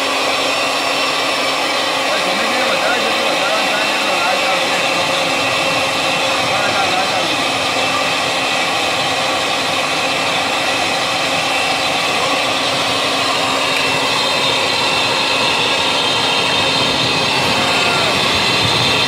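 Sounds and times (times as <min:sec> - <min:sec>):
air blower whine: 0:00.0 - 0:19.0.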